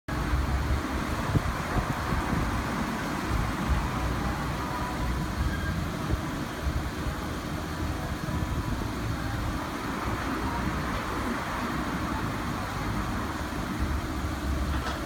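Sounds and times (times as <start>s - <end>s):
road traffic noise: 0.1s - 15.0s
vehicle engine rumble: 0.1s - 15.0s.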